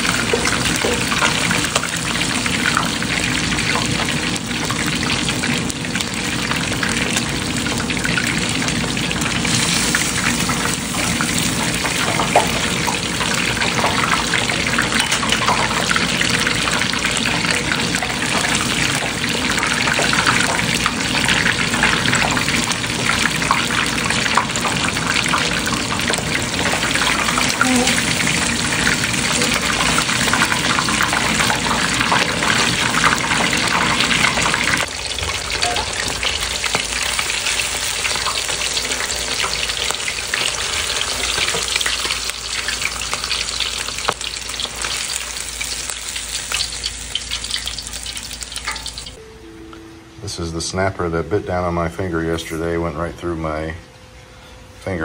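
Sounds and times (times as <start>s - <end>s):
fish deep frying in oil: 0.0s - 49.2s.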